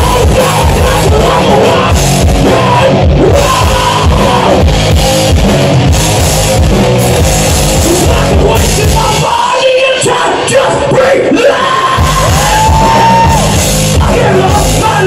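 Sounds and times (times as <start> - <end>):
live rock band playing: 0.0 - 10.1, 11.7 - 15.0.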